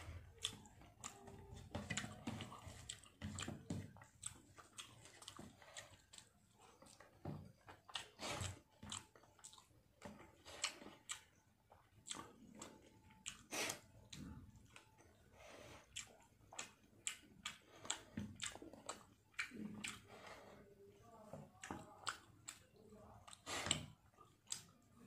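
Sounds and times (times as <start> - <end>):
person chewing with wet mouth smacks: 0.0 - 25.0.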